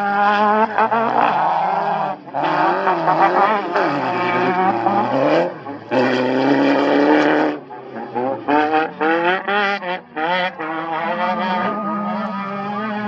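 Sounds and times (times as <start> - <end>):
race vehicle engines revving: 0.0 - 13.0.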